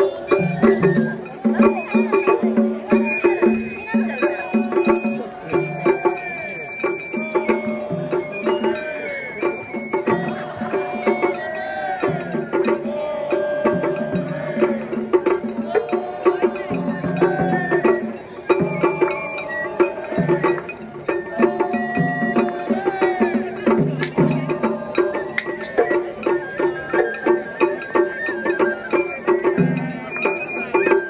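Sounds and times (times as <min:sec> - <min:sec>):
festival music melody: 0:00.0 - 0:31.0
wood block percussion clicks: 0:00.0 - 0:31.0.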